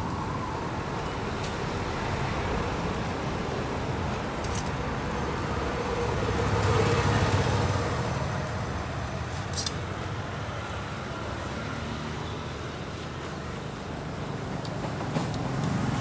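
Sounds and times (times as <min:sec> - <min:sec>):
street traffic rumbling: 0:00.0 - 0:16.0.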